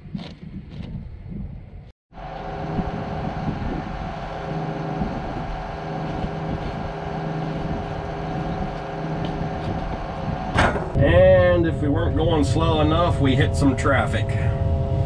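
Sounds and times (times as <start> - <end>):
steady hum: 0.4 - 15.0
diesel engine droning: 2.1 - 15.0.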